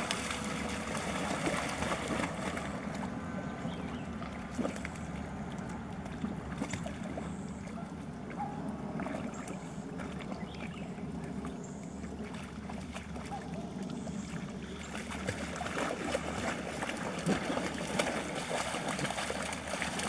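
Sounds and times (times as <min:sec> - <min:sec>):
dogs splashing in water: 0:00.0 - 0:20.0.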